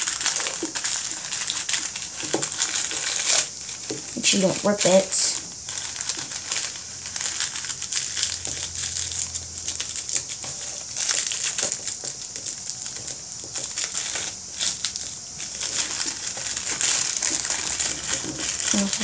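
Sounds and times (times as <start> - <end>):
paper wrapper crinkling: 0.0 - 19.0.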